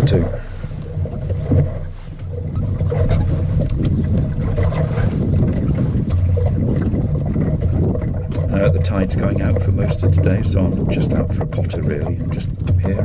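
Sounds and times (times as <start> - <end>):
water splashing along a hull: 0.0 - 13.0
wind buffeting the microphone: 0.0 - 13.0.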